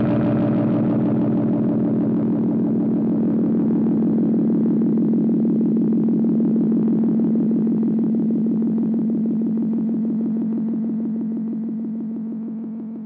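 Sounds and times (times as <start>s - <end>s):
pulsing low synthesizer note: 0.0s - 13.0s.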